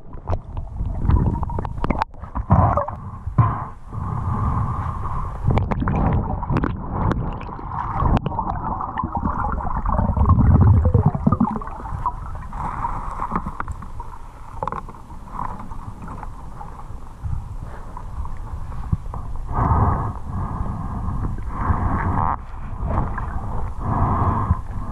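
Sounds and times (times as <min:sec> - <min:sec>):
low gurgling rumbles: 0:00.0 - 0:24.9
muffled underwater water rushing: 0:00.0 - 0:24.9.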